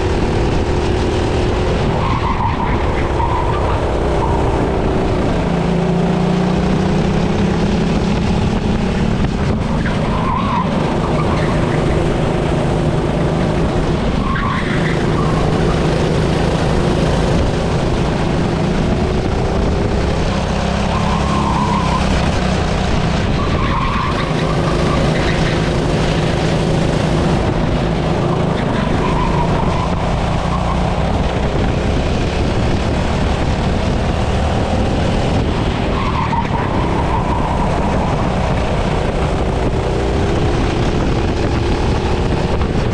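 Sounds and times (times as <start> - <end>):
kart engine running hard: 0.0 - 42.9
loud rushing noise: 0.0 - 42.9.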